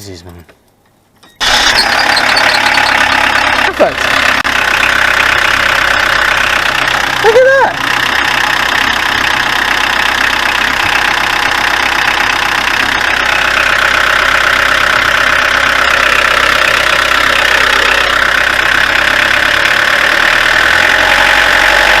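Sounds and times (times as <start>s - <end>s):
diesel engine idling: 1.4s - 22.0s.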